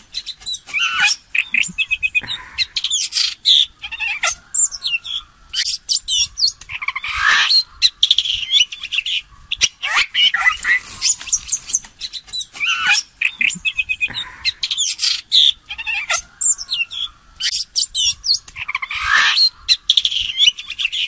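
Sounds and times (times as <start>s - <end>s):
magpies chirping and squawking: 0.0s - 21.0s.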